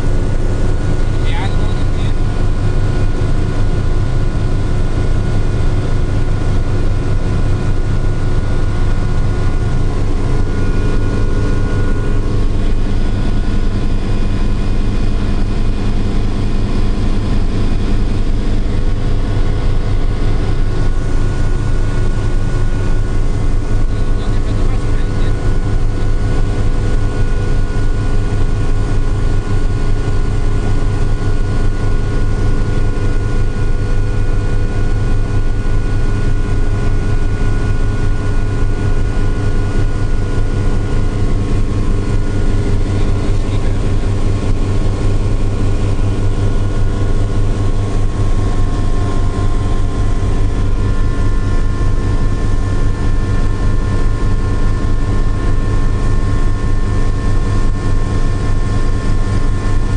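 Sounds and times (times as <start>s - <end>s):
helicopter rotor and engine noise: 0.0s - 59.9s.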